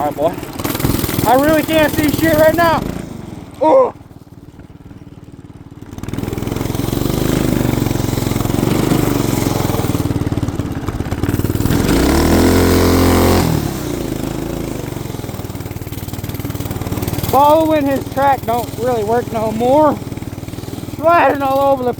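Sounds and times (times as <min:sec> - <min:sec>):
small engine revving: 0:00.0 - 0:21.9.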